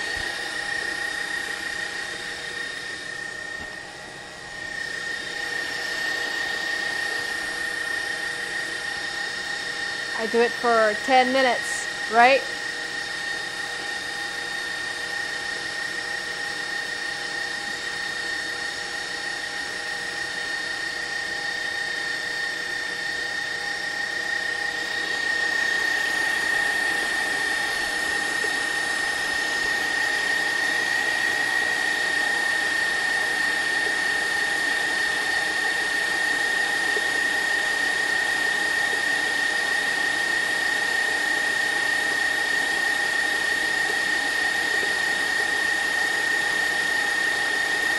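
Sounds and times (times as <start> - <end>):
stand mixer motor whining: 0.0 - 47.9.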